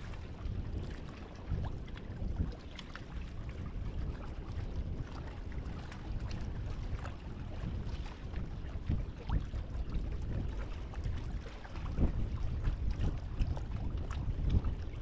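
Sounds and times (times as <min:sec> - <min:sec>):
waves lapping against kayak hull: 0:00.0 - 0:15.0
wind rumbling on microphone: 0:00.0 - 0:15.0.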